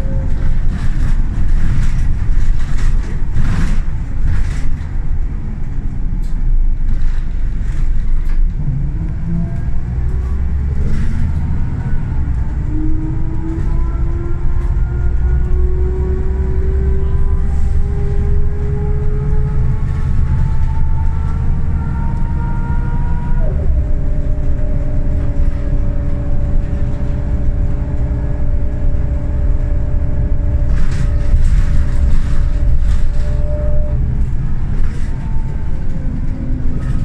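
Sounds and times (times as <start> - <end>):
bus diesel engine running: 0.0 - 37.0
drivetrain whine: 0.0 - 37.0
road rumble: 0.0 - 37.0.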